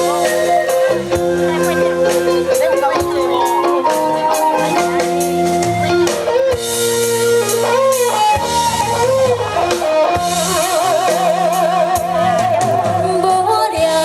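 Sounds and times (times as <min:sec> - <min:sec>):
lead melody with wide vibrato: 0:00.0 - 0:14.0
live band playing: 0:00.0 - 0:14.0.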